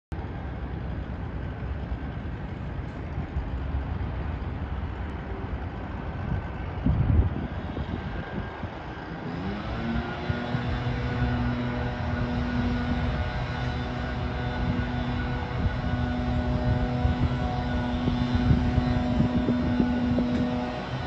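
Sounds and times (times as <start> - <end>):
distant road traffic rumble: 0.2 - 21.0.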